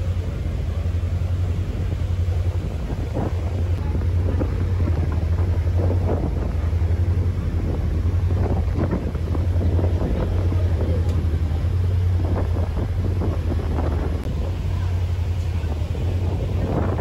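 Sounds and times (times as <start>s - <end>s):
ferry engine drone: 0.0s - 17.0s
water rushing in wake: 0.0s - 17.0s
wind buffeting microphone: 0.0s - 17.0s.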